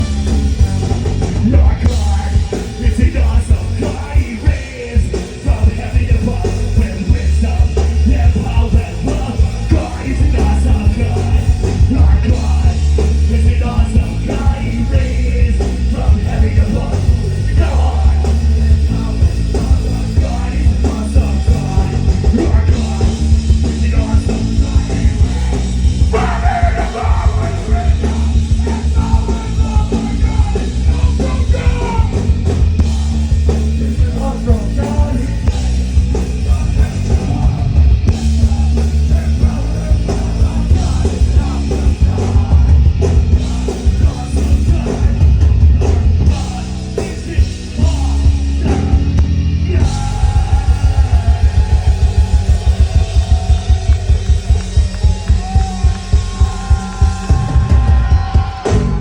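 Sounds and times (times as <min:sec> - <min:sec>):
drums pounding: 0:00.0 - 0:59.0
live ska punk band playing: 0:00.0 - 0:59.0
sung and shouted vocals: 0:01.4 - 0:33.0, 0:33.7 - 0:59.0.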